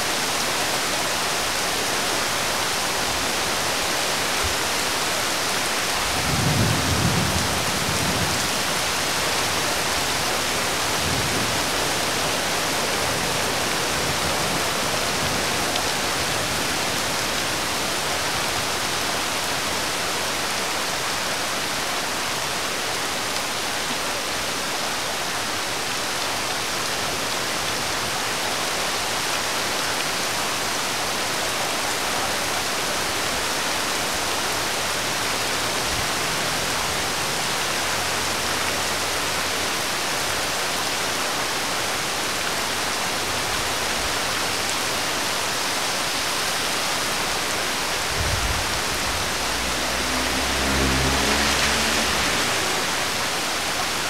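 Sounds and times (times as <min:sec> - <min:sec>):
rain on a wet road: 0:00.0 - 0:54.0.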